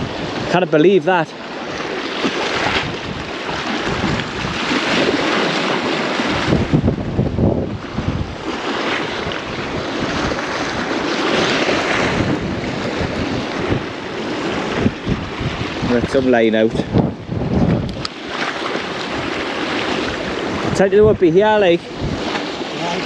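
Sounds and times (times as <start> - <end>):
sea surf washing: 0.0 - 23.0
wind buffeting microphone: 0.0 - 23.0.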